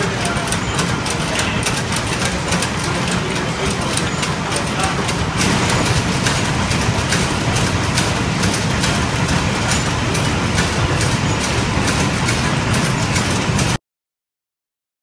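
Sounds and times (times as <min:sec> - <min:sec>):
carding machine rumbling: 0:00.0 - 0:13.8
machine clicks clattering: 0:00.0 - 0:13.8.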